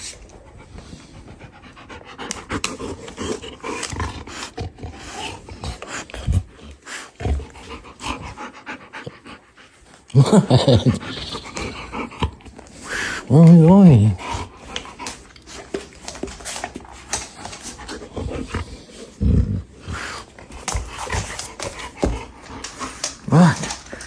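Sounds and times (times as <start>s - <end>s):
dog panting: 0.1s - 24.0s.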